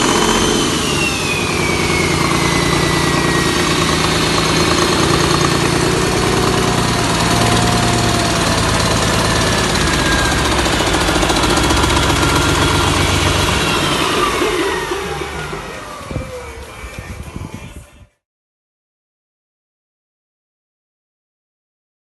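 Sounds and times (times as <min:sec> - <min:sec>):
diesel engine clatter: 0:00.0 - 0:17.8
thin high whine: 0:00.0 - 0:18.0.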